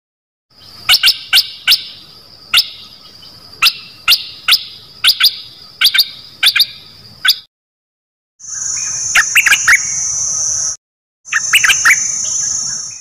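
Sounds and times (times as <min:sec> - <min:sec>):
bird sharp piercing calls: 0:00.6 - 0:07.5, 0:08.4 - 0:13.0.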